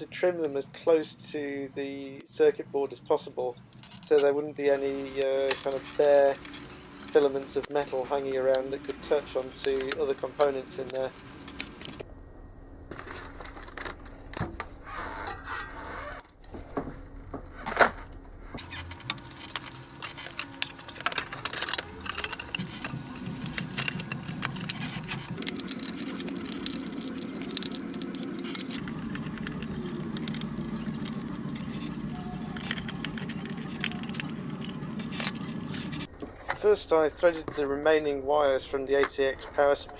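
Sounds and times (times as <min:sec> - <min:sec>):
low steady hum: 0:00.0 - 0:39.9
wires rustling: 0:03.6 - 0:12.0, 0:12.9 - 0:39.9.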